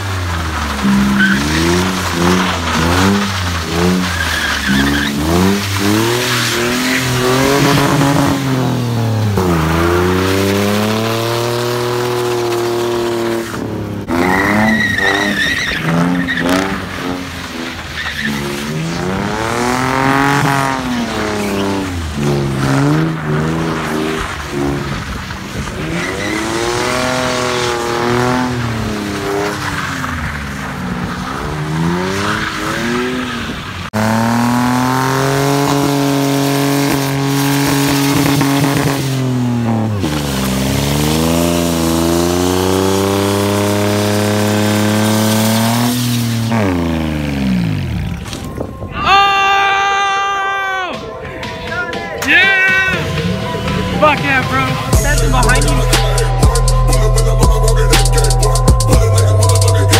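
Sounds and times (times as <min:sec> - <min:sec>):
car engine revving: 0:00.0 - 0:48.6, 0:51.0 - 0:59.9
tyres squealing on pavement: 0:00.0 - 0:59.9.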